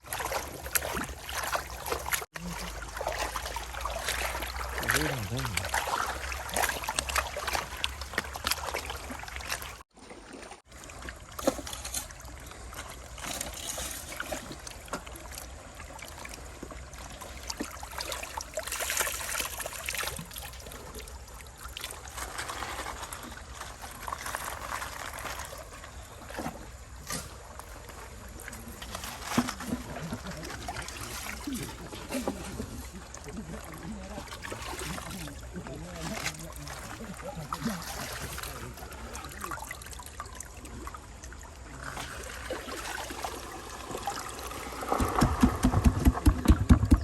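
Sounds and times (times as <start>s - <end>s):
water trickling and sloshing: 0.0s - 47.0s.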